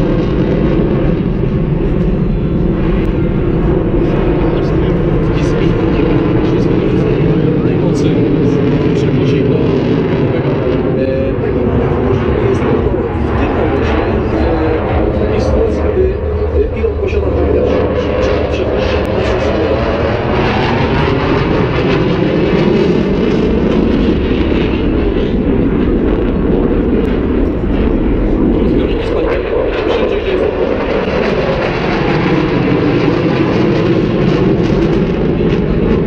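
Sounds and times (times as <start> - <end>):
fighter jet flying past: 0.0 - 36.0.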